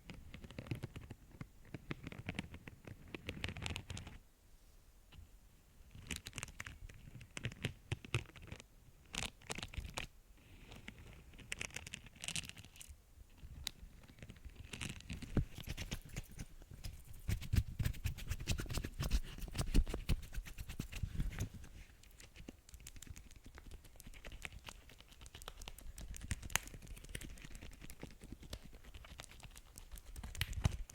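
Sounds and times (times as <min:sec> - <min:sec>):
small taps and scratches: 0:00.0 - 0:04.2, 0:05.9 - 0:30.9.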